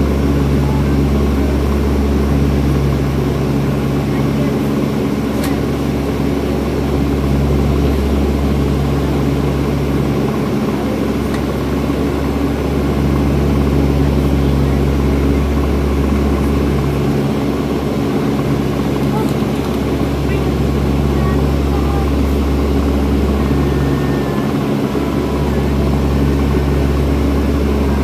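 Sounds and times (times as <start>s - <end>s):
propeller engine drone in cabin: 0.0s - 28.0s.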